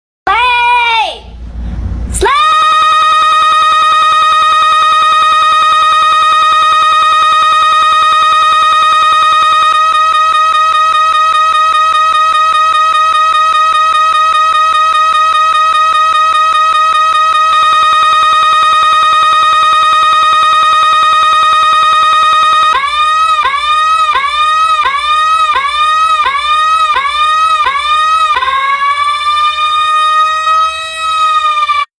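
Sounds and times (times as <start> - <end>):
electronic siren-like ringtone: 3.0 - 31.9.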